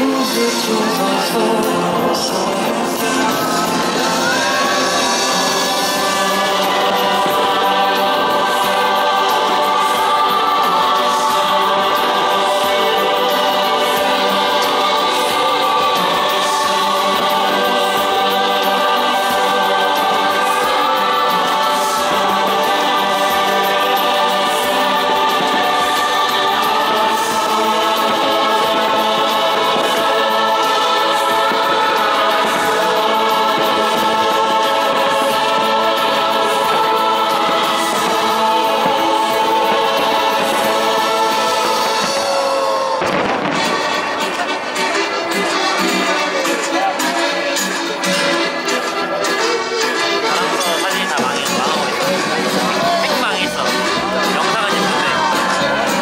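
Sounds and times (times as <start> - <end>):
choir singing held chords: 0.0 - 56.0.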